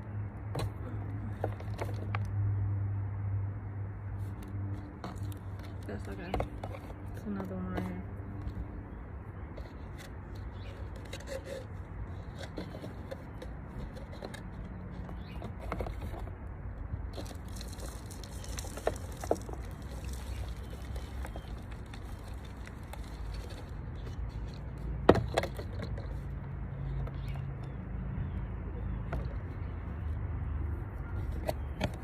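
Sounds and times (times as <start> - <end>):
handling scrapes and taps: 0.5 - 2.3, 4.2 - 8.7, 9.4 - 16.4, 17.1 - 27.8, 29.0 - 29.7, 31.1 - 32.0.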